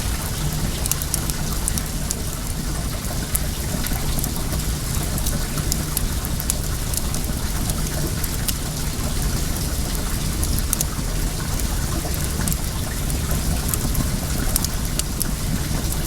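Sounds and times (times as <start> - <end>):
water running: 0.0 - 16.0
wood fire crackling: 0.0 - 16.0.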